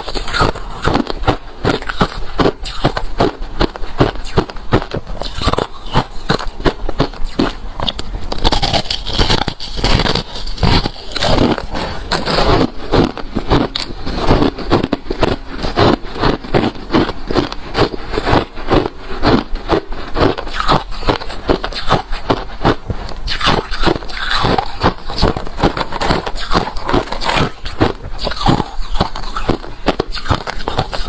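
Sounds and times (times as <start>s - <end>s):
crunching ice being chewed: 0.0s - 31.0s.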